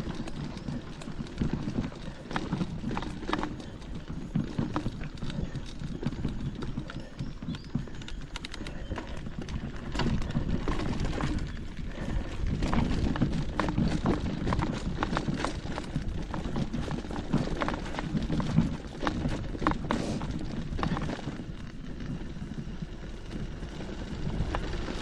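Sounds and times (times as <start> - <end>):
footsteps on forest trail: 0.0 - 25.0.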